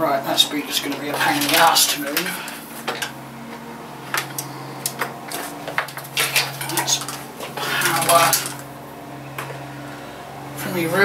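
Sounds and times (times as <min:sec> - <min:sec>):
low hum: 0:00.0 - 0:11.0
cables clicking and rattling: 0:00.2 - 0:09.6.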